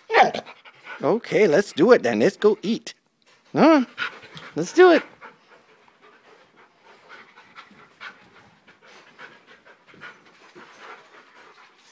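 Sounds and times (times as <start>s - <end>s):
dog panting: 0.1s - 2.9s, 3.8s - 11.9s.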